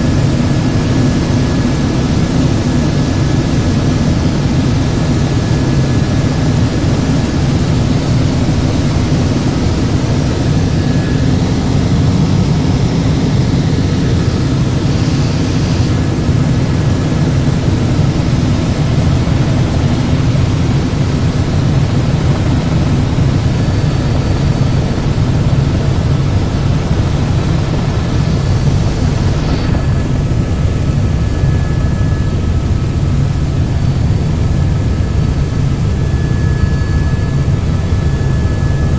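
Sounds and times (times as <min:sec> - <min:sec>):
faint high whine: 0:00.0 - 0:38.9
helicopter engine and rotor drone: 0:00.0 - 0:38.9.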